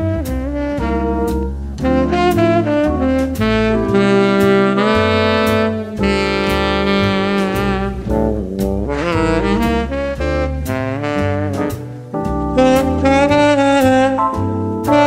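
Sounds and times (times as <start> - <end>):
bass: 0.0 - 15.0
drums: 0.0 - 15.0
saxophone lead: 0.0 - 15.0.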